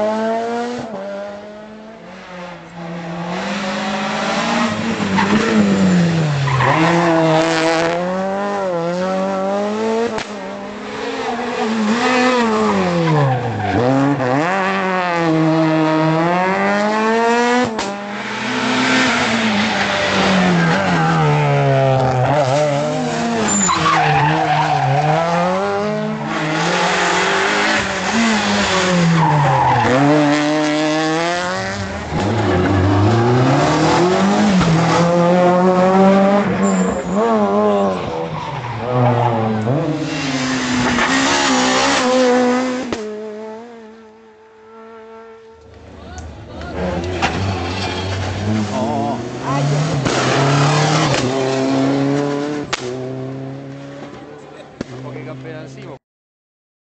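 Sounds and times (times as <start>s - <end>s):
cars passing: 0.0s - 56.0s
rally car engines revving: 0.0s - 56.0s.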